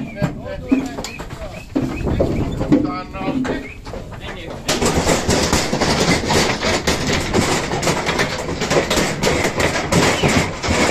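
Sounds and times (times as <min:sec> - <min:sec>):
bumps against metal rails: 0:00.0 - 0:10.9
hooves clattering on ramp: 0:00.0 - 0:10.9.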